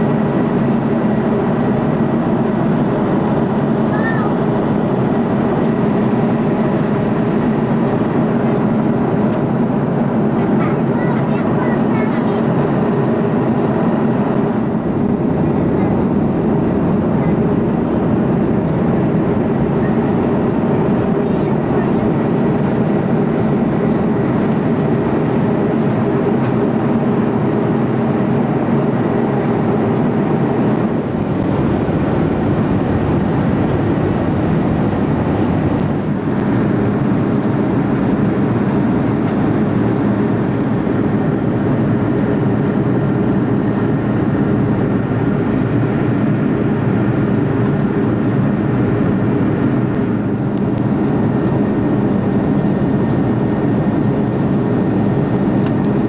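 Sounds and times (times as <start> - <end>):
airliner cabin noise: 0.0 - 56.0.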